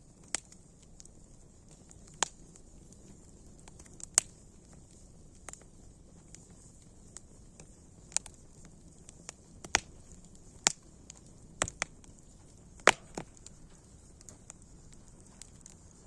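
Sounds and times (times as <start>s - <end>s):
faint steady hiss: 0.0s - 16.0s
wood fire crackling: 0.0s - 16.0s.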